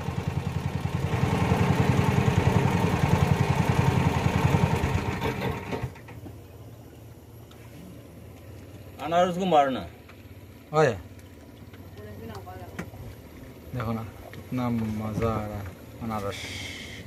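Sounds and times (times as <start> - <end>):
boat motor engine running: 0.0 - 17.0
faint low engine hum: 0.0 - 17.0.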